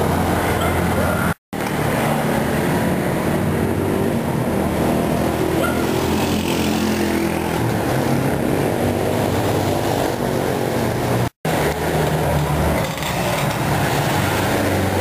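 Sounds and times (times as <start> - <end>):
motorcycle engines running: 0.0 - 15.0
street traffic noise: 0.0 - 15.0.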